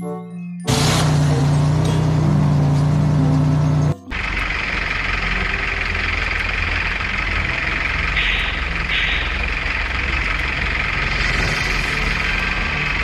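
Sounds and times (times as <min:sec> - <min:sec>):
vehicle engine idling: 0:00.7 - 0:13.0.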